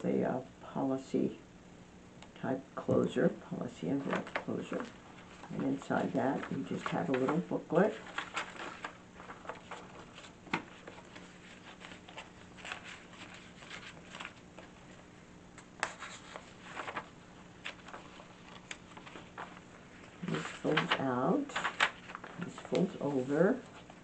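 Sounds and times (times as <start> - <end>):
faint steady hum: 0.0 - 24.0
paper pages rustling: 4.0 - 24.0.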